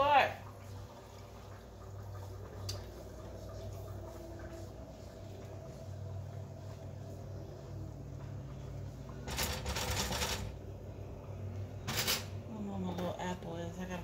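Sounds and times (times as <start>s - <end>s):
low hum: 0.4s - 14.0s.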